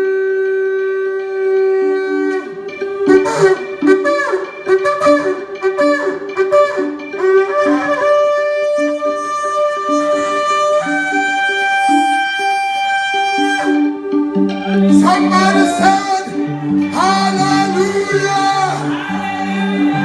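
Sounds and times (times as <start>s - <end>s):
ram's-horn trumpet held notes: 0.0s - 20.0s
music with repeating accompaniment: 1.2s - 20.0s.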